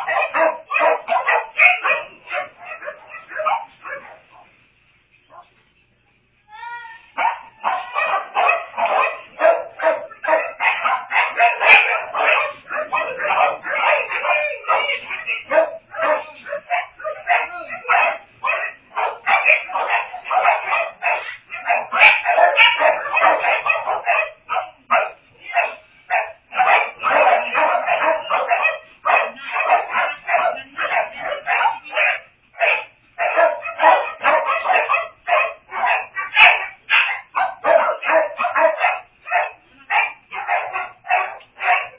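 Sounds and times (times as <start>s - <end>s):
dogs barking: 0.0s - 4.6s, 7.2s - 41.9s.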